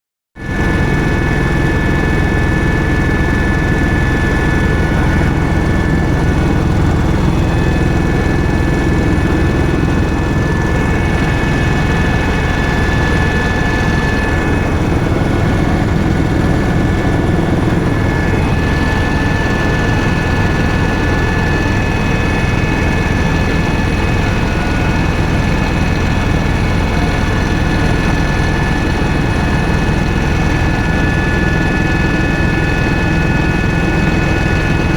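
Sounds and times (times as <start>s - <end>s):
helicopter rotor and engine drone: 0.4s - 34.9s
high turbine whine: 0.4s - 34.9s.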